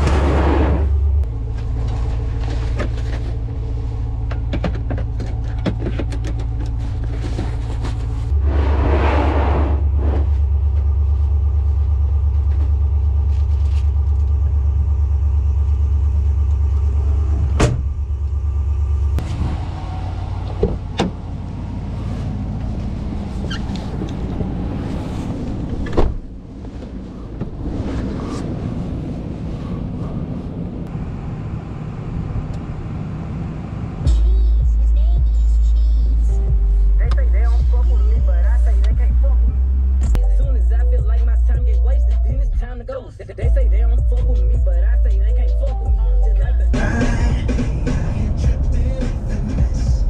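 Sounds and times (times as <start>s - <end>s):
car engine rumble inside cabin: 0.0s - 50.0s.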